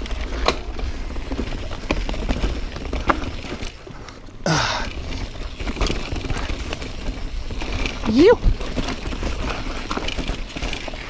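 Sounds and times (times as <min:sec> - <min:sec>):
bike knocking and rattling: 0:00.0 - 0:11.0
bike tyres rumbling on trail: 0:00.0 - 0:11.0.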